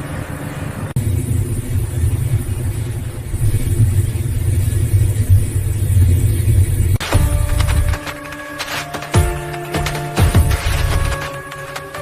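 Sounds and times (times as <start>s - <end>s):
machine engine rumbling: 0.0s - 12.0s.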